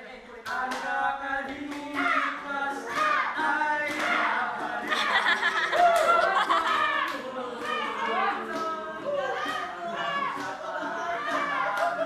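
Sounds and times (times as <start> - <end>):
acoustic guitar: 0.0 - 12.0
men singing together: 0.5 - 12.0.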